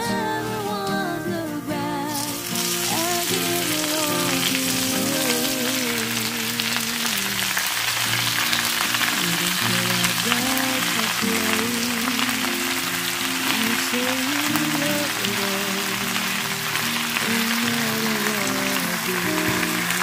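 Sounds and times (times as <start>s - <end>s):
background music with singing: 0.0s - 7.8s, 9.0s - 16.4s, 17.1s - 20.0s
food sizzling in oil: 2.0s - 20.0s.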